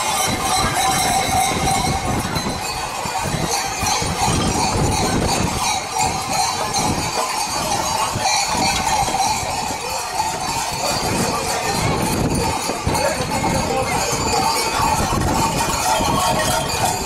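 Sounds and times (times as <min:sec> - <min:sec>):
large metal bells clanging: 0:00.0 - 0:17.0.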